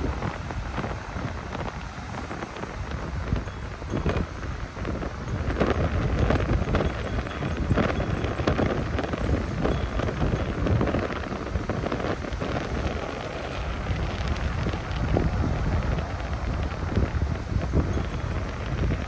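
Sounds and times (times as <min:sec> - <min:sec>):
gusty wind buffeting microphone: 0:00.0 - 0:19.0
surf breaking on beach: 0:00.0 - 0:19.0.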